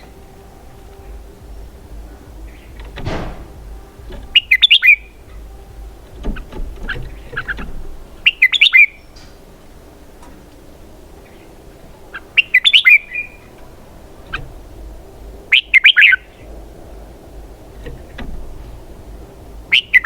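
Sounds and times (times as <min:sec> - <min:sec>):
bird singing: 0:00.0 - 0:20.0.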